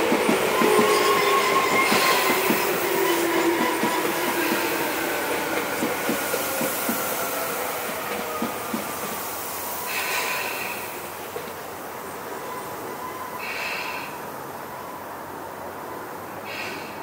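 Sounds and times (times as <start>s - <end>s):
electric train running on track: 0.0s - 17.0s.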